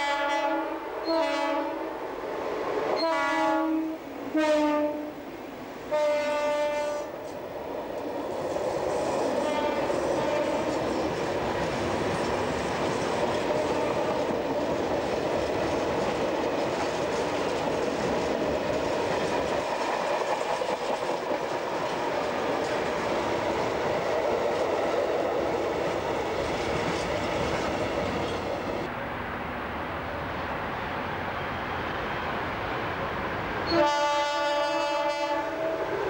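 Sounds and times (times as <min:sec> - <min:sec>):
freight train wheels rumbling on rails: 0:00.0 - 0:36.0.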